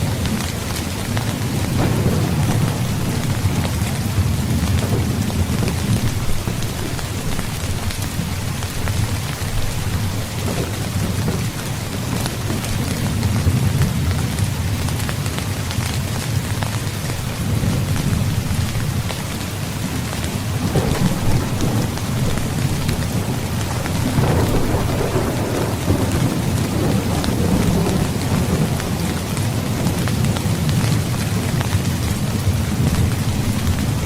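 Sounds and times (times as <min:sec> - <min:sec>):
heavy rain: 0:00.0 - 0:34.0
thunder rumbling: 0:00.0 - 0:34.0.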